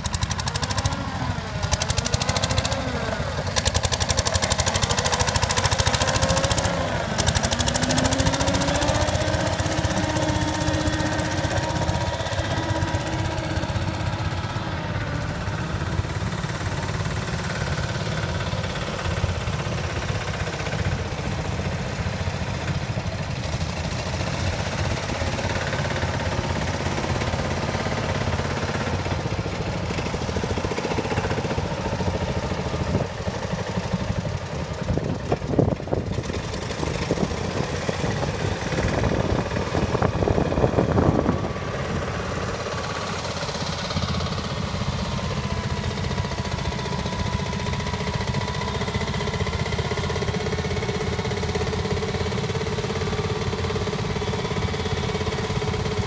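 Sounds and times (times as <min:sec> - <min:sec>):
walking tractor engines running: 0:00.0 - 0:56.0.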